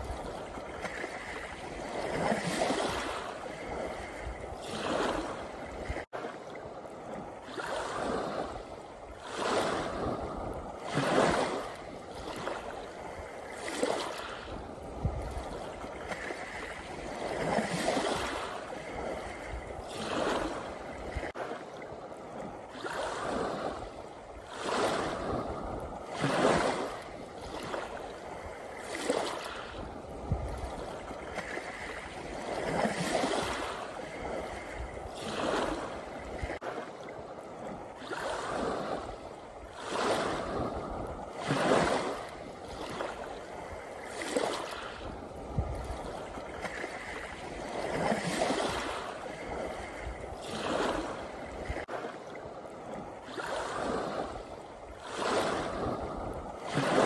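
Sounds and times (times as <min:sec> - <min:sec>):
waves washing up pebble beach: 0:00.0 - 0:06.1, 0:07.4 - 0:21.7, 0:22.6 - 0:36.7, 0:38.0 - 0:52.2, 0:52.8 - 0:57.0.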